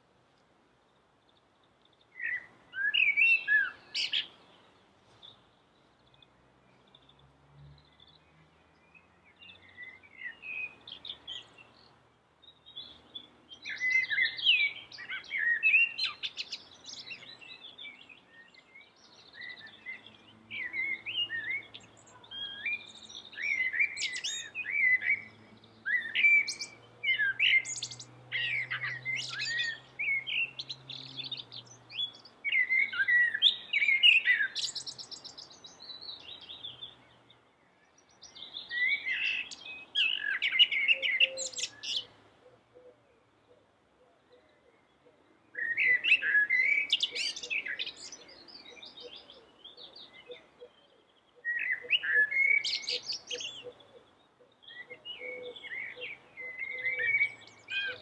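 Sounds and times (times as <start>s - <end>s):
blackbird singing: 1.8s - 58.0s.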